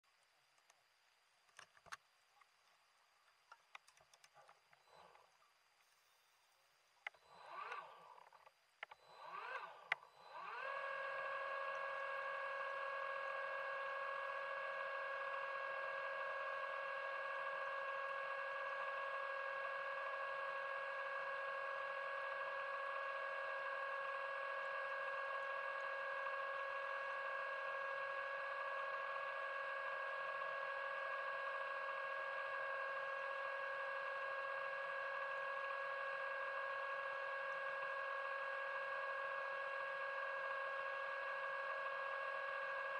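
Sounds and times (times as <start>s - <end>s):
underwater scooter motor whine: 7.0s - 42.9s.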